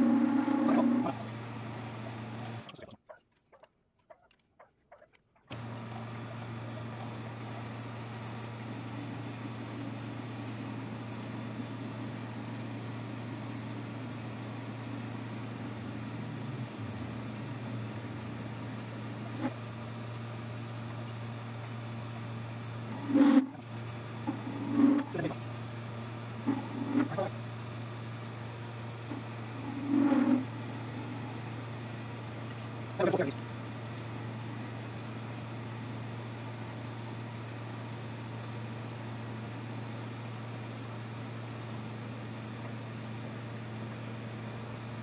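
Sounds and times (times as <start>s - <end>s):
metal lathe motor hum: 0.0s - 2.7s, 5.5s - 39.9s.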